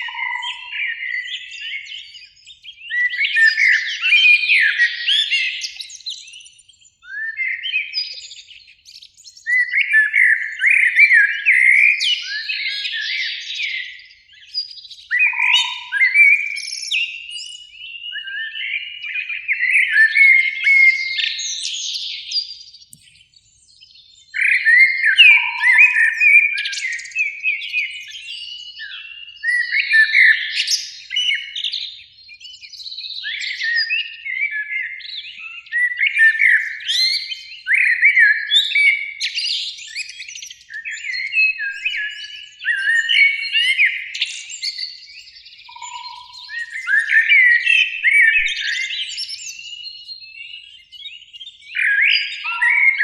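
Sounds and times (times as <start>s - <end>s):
blackbirds singing: 0.0s - 53.0s.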